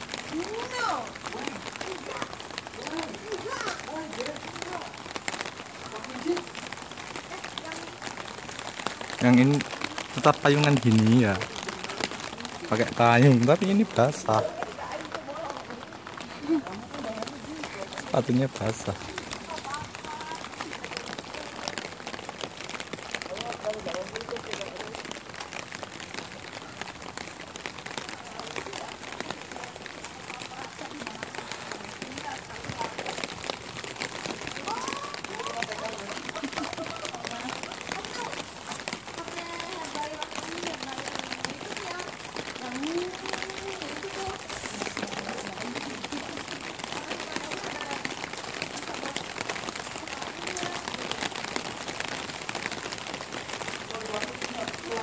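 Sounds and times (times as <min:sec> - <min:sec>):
rain on plastic umbrella: 0:00.0 - 0:55.0.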